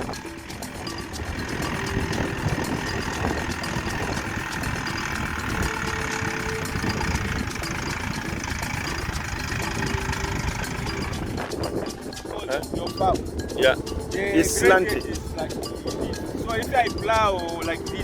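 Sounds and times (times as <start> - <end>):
tractor engine running: 0.0 - 17.7.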